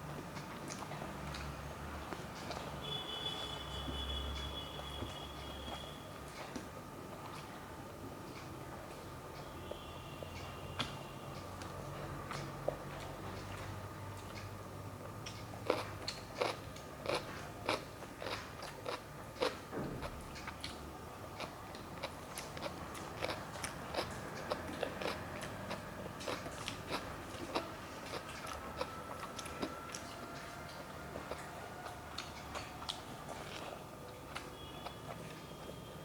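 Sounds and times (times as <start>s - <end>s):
person chewing and crunching food: 0.0s - 8.5s, 10.7s - 36.0s.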